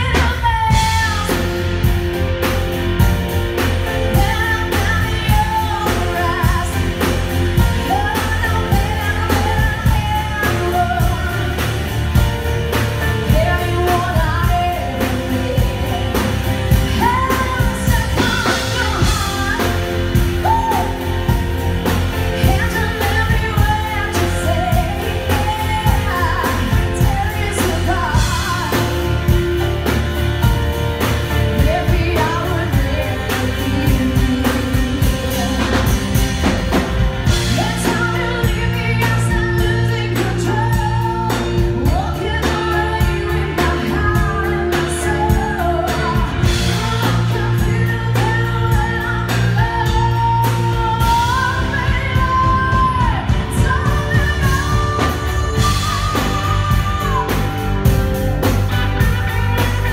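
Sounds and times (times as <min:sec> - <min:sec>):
live rock band playing: 0:00.0 - 0:59.9
steady drumbeat: 0:00.0 - 0:59.9
woman singing: 0:00.0 - 0:59.9.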